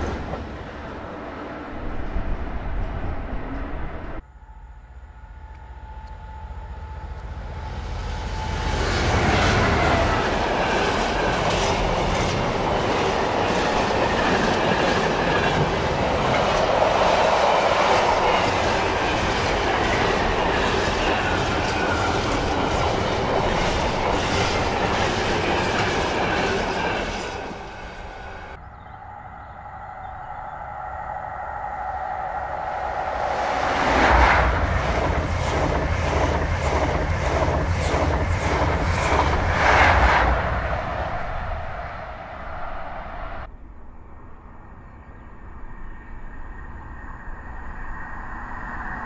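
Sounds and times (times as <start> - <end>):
diesel locomotive passing: 0.0 - 43.6.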